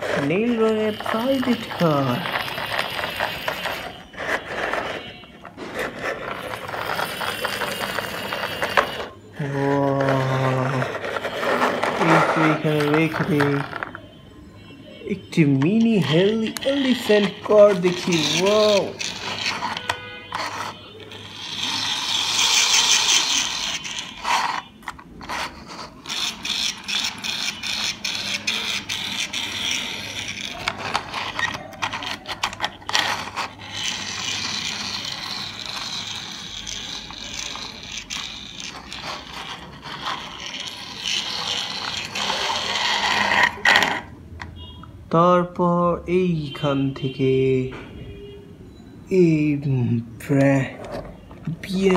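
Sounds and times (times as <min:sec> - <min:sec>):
toy car wheels whirring: 0:00.0 - 0:14.1, 0:15.3 - 0:44.7, 0:50.8 - 0:51.9.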